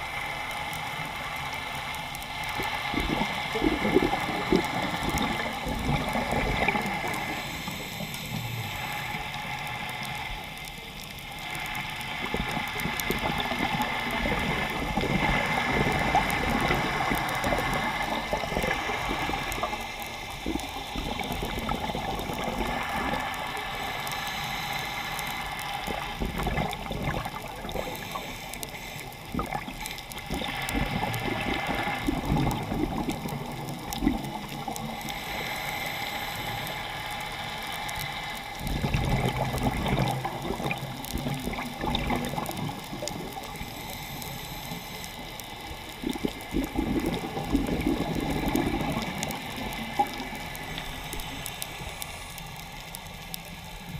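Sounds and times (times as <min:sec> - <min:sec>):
underwater water wash: 0:00.0 - 0:53.9
regulator bubbles gurgling: 0:00.8 - 0:09.4, 0:10.0 - 0:52.4.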